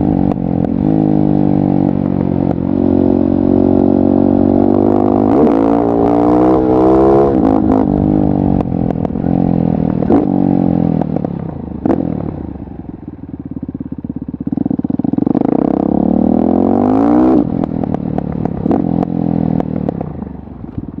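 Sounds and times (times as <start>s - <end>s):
motorcycle engine revving and chugging: 0.0s - 21.0s.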